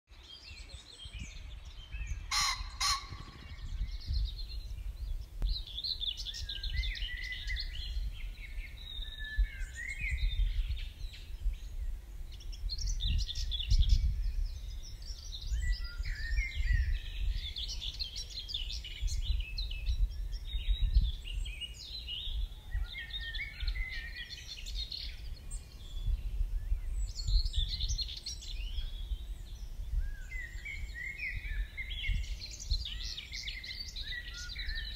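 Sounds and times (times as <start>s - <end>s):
small birds singing: 0.1s - 34.9s
wind buffeting microphone: 0.5s - 34.9s.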